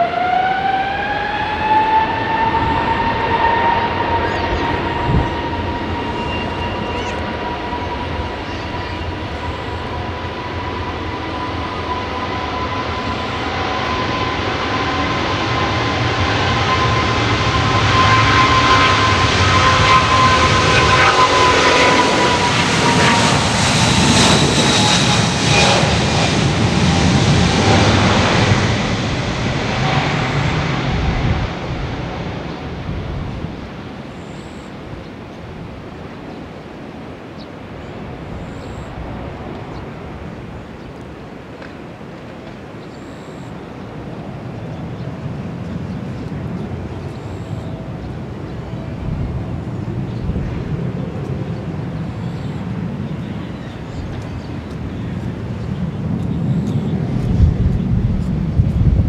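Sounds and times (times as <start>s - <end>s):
jet engine roar: 0.0s - 59.0s
jet engine whine: 0.0s - 59.0s.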